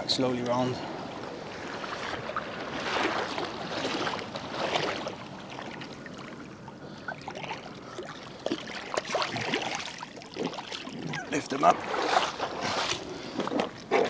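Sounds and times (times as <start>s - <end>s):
seawater sloshing and splashing: 0.8s - 14.0s.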